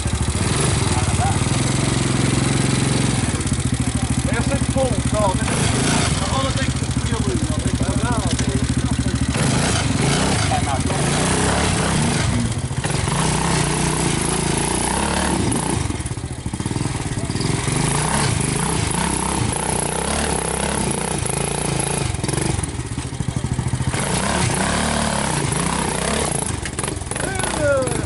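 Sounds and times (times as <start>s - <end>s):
vehicle engines revving: 0.0s - 28.0s.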